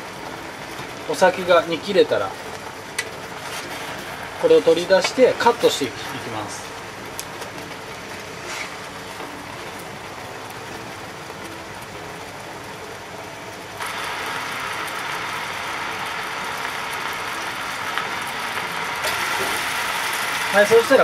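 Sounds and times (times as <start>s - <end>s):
sauce sizzling in a frying pan: 0.0s - 21.0s.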